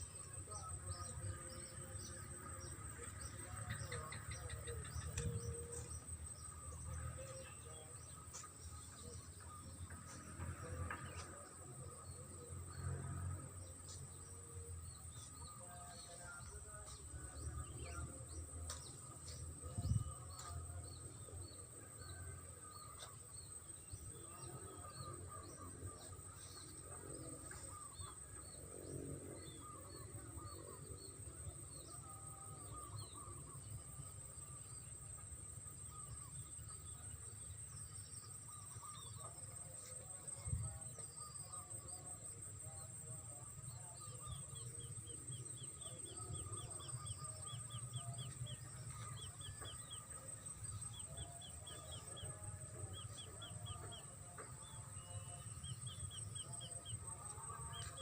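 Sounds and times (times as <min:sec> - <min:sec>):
birds chirping: 0:00.0 - 0:58.0
insect drone: 0:00.0 - 0:58.0.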